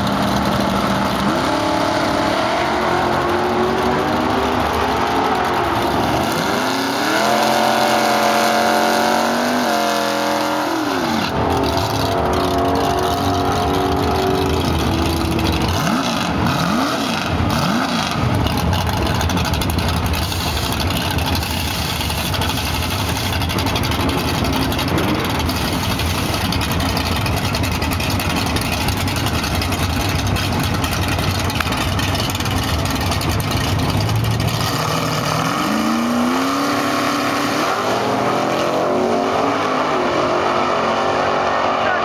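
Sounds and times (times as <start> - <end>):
drag racing car engine: 0.0 - 42.0.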